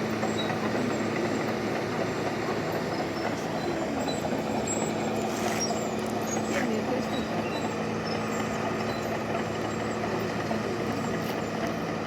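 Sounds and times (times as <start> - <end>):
bulldozer diesel engine droning: 0.0 - 12.0.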